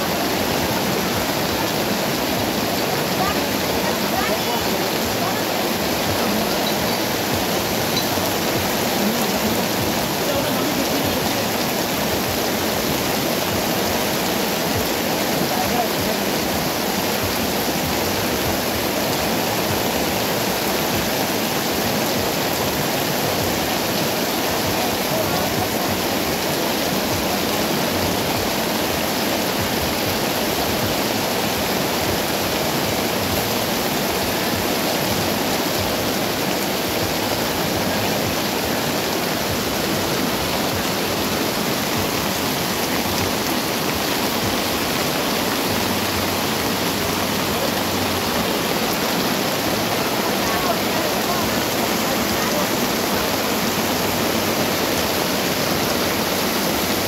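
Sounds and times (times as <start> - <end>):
heavy rain on pavement and awnings: 0.0 - 57.0.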